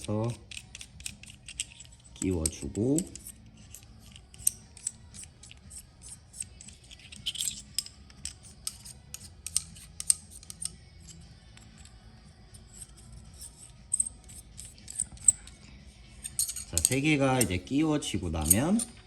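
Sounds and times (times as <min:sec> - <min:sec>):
metal parts clicking and scraping: 0:00.0 - 0:19.0.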